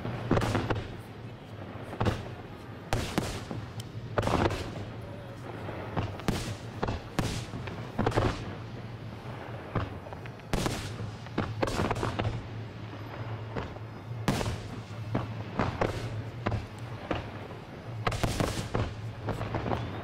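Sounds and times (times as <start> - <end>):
firework bangs: 0.0 - 20.0.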